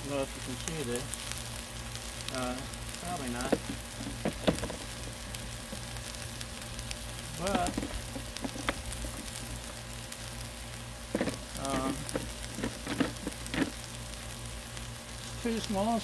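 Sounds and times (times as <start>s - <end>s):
vegetables sizzling on griddle: 0.0s - 16.0s.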